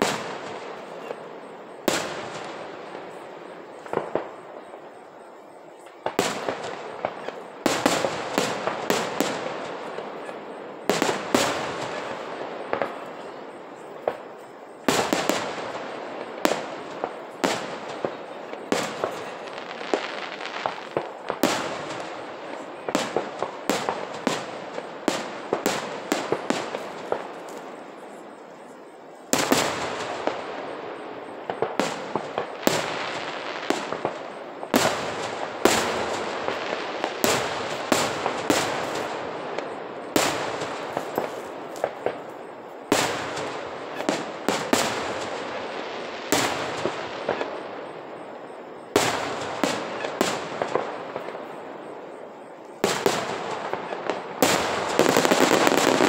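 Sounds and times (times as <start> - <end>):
fireworks popping and crackling: 0.0 - 5.0, 5.9 - 28.1, 29.3 - 52.1, 52.8 - 56.0
fireworks booming: 0.0 - 28.4, 29.3 - 56.0.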